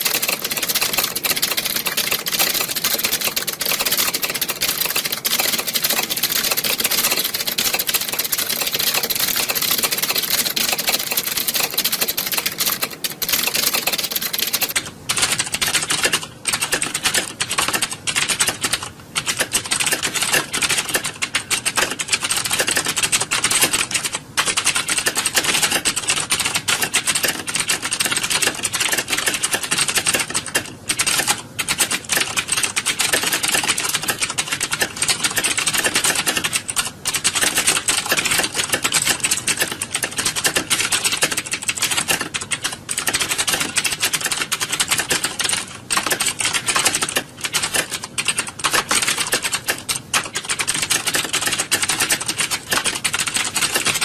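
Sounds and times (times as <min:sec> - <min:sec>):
keyboards typing fast: 0:00.0 - 0:54.0.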